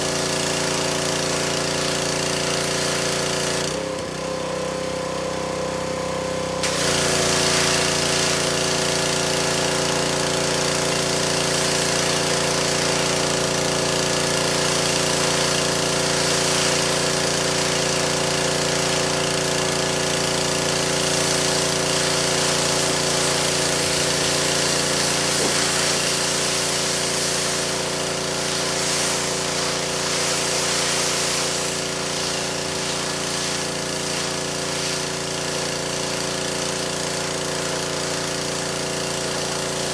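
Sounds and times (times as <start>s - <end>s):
pressure washer spray hiss: 0.0s - 3.9s, 6.6s - 39.9s
pressure washer running: 0.0s - 39.9s.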